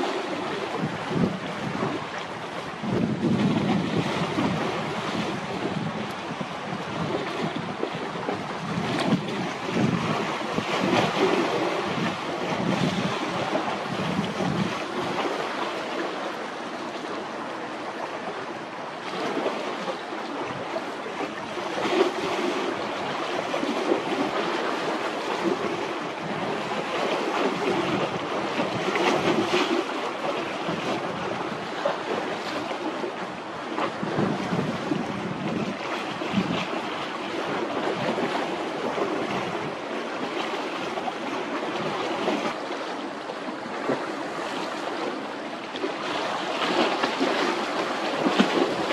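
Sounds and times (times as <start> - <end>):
wind gusting across microphone: 0.0 - 17.4, 19.0 - 42.8
rough sea washing: 0.0 - 48.9.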